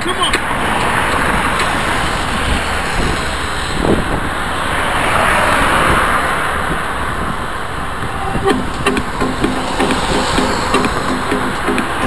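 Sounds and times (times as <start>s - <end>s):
road traffic passing: 0.0s - 12.0s
wind rushing over microphone: 0.3s - 12.0s.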